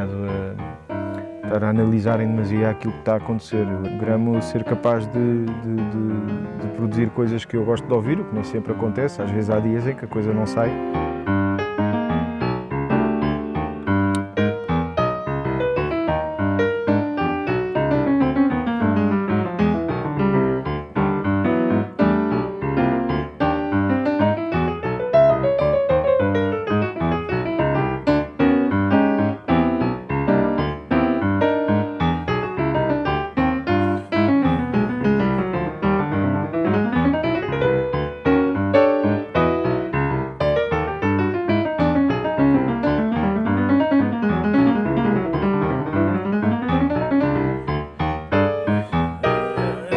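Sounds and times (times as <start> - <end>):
solo piano: 0.0 - 49.9.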